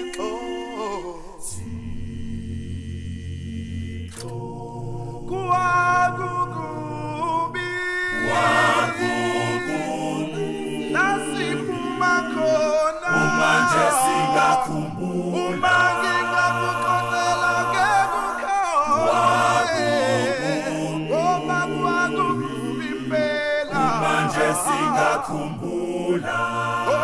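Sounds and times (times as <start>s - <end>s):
men singing a cappella in harmony: 0.0s - 27.0s.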